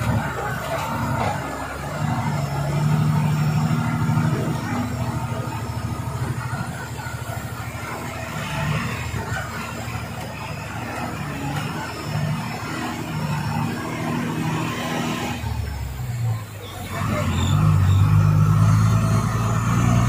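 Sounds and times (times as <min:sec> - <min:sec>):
road noise: 0:00.0 - 0:20.0
truck diesel engine running: 0:00.0 - 0:20.0.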